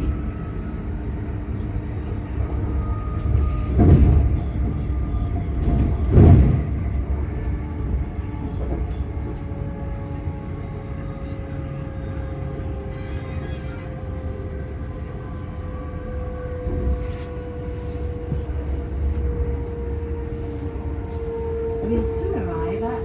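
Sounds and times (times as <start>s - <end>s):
train carriage rumble: 0.0s - 23.0s.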